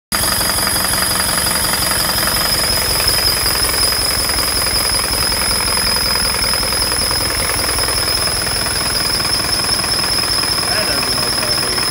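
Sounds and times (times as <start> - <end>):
idling engine puffing: 0.1 - 11.9
steady high-pitched whine: 0.2 - 11.9.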